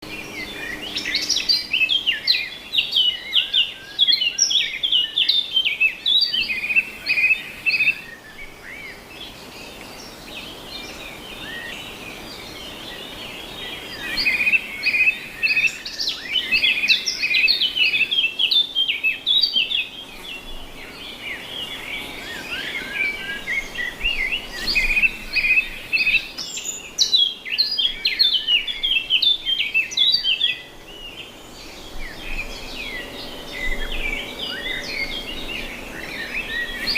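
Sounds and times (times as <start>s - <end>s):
birds chirping and singing: 0.0s - 36.9s.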